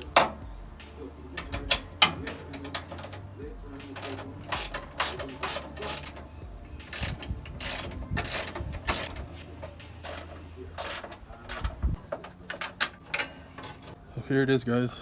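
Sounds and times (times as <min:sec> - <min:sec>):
ratchet wrench clicking: 0:00.0 - 0:00.5, 0:01.4 - 0:14.0.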